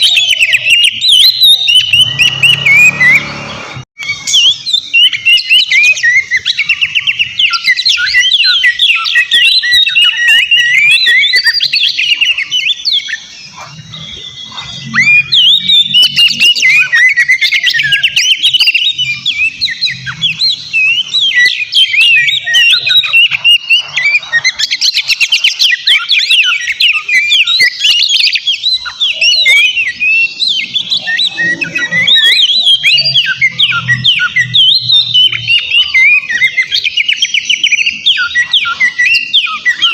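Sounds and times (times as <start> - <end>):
bird singing varied whistles: 0.0 - 39.9.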